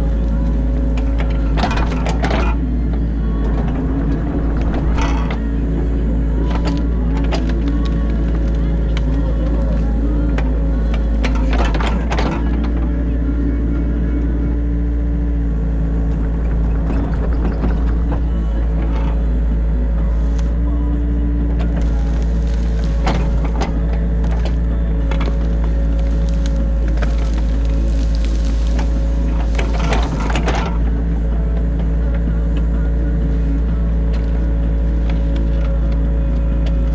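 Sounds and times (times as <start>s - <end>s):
digging clattering and scraping: 0.0s - 20.6s, 21.4s - 36.9s
excavator diesel engine running: 0.0s - 36.9s.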